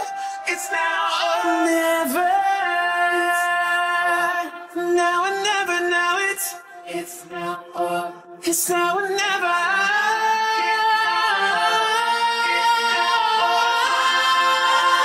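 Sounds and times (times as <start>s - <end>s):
layered voices singing in harmony: 0.0s - 15.0s.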